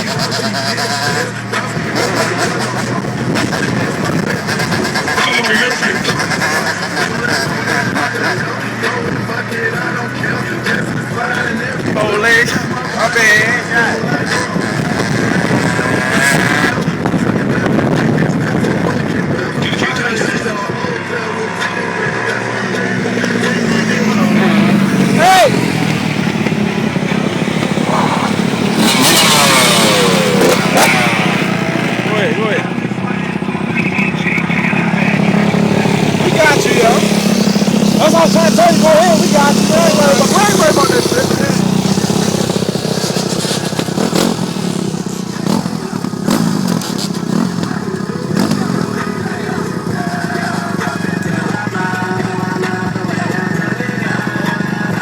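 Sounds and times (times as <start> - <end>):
dirt bike engines running: 0.0 - 55.0.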